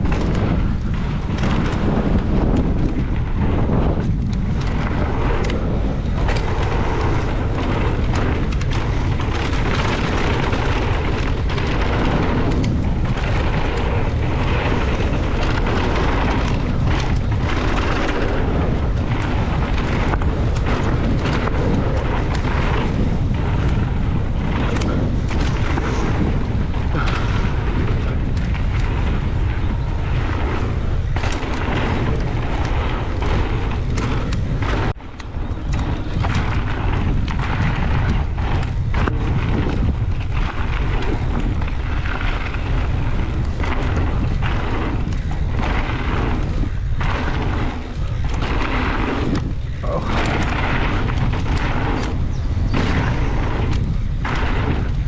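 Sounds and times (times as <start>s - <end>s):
bike knocks and rattles: 0.0s - 55.0s
bike tyre noise: 0.0s - 55.0s
wind buffeting microphone: 0.0s - 55.0s.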